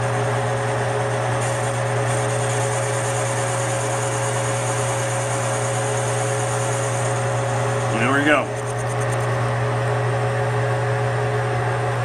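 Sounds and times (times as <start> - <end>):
lathe motor hum: 0.0 - 9.9.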